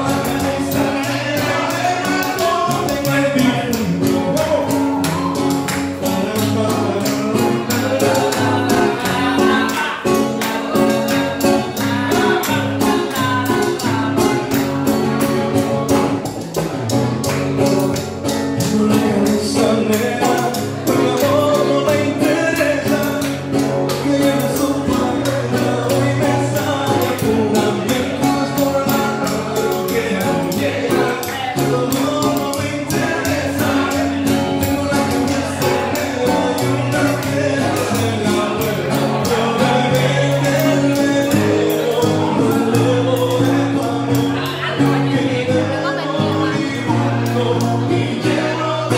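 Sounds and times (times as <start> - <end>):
acoustic guitar: 0.0 - 48.9
man singing into a microphone: 0.0 - 48.9.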